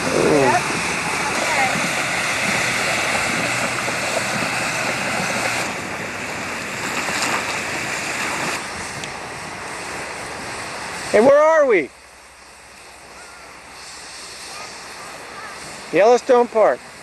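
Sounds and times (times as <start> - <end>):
steam vent hissing: 0.0 - 17.0.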